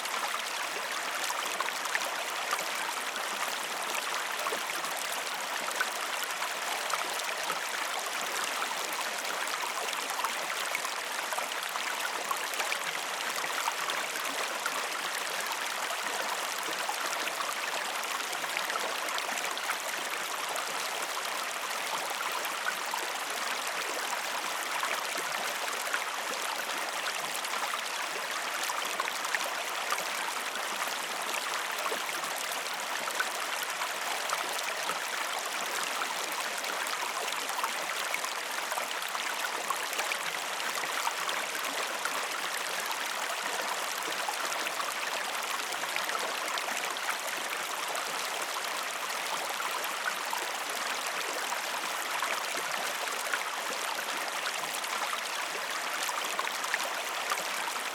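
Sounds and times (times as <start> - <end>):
river water flowing: 0.0 - 57.9.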